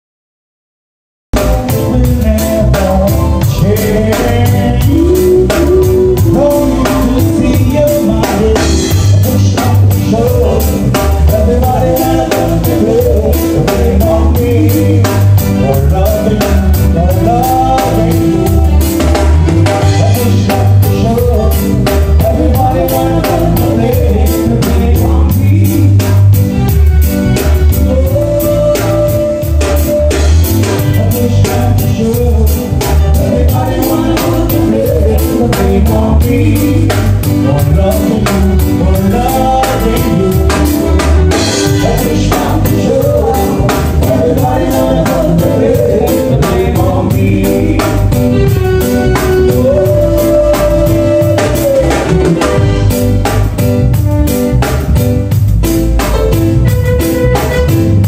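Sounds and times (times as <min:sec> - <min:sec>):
person singing: 0:01.3 - 0:54.9
drum kit beat: 0:01.3 - 0:58.0
live band music: 0:01.3 - 0:58.0.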